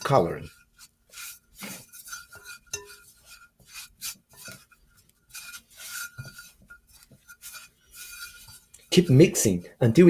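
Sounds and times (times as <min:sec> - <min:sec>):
fingers squeezing dough in bowl: 0:00.0 - 0:10.0.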